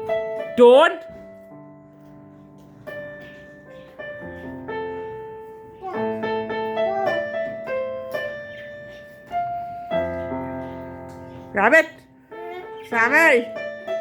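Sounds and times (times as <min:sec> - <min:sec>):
piano keyboard notes and chords: 0:00.0 - 0:14.0.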